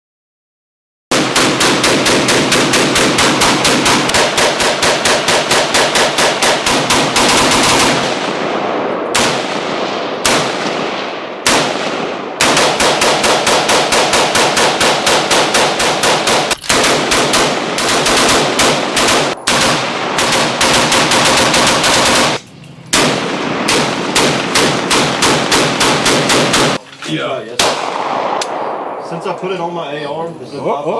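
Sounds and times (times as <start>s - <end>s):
rapid gunfire: 1.1s - 22.4s, 23.0s - 26.8s, 27.6s - 29.0s
single gunshots echoing: 1.1s - 22.4s, 23.0s - 26.8s, 27.5s - 30.2s.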